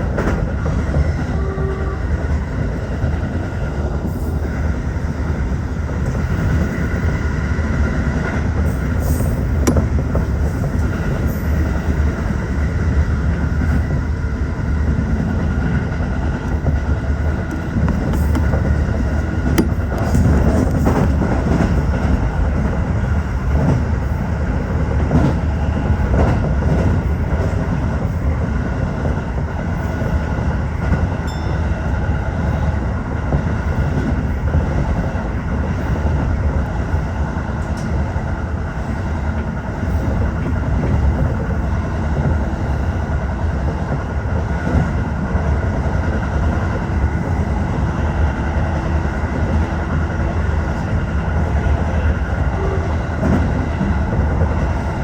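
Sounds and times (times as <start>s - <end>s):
train wheels clickety-clack: 0.0s - 55.0s
wheel and rail running noise: 0.0s - 55.0s.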